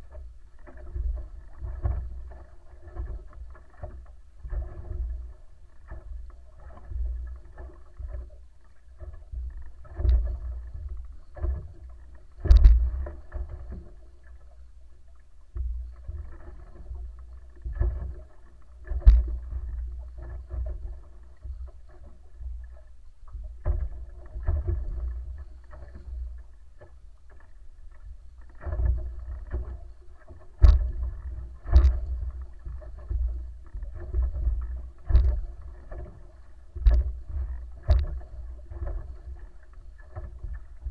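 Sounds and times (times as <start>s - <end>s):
faint steady hum: 0.0s - 40.9s
water rushing against hull: 0.0s - 40.9s.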